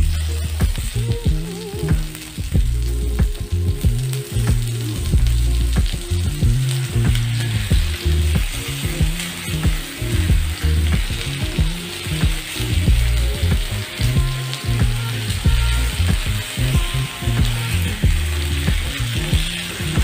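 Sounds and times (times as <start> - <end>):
background music bass line: 0.0 - 20.0
meat sizzling in a frying pan: 0.0 - 20.0.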